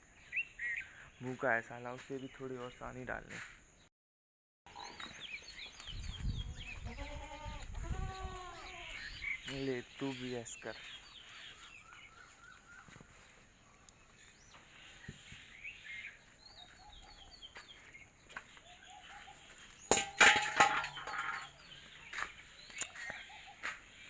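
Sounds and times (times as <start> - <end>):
birds chirping and calling: 0.2 - 3.2, 4.7 - 24.0.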